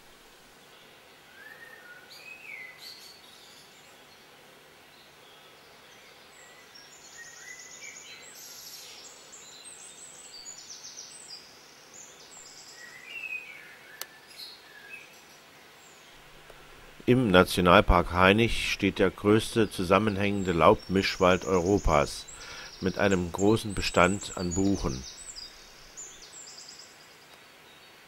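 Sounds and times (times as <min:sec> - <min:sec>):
faint songbirds singing: 0:00.0 - 0:28.0.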